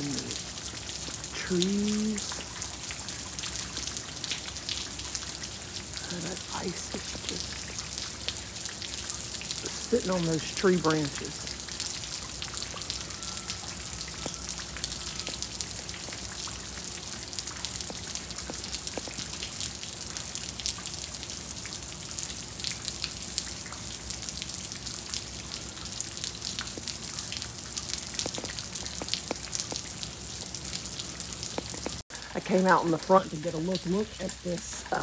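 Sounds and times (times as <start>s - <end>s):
freezing rain pattering on ice: 0.0s - 35.0s.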